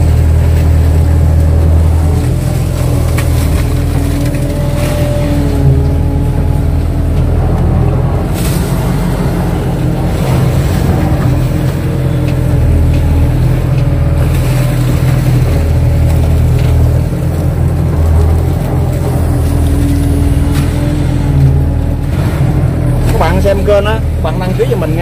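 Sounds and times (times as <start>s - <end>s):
excavator diesel engine: 0.0s - 25.0s.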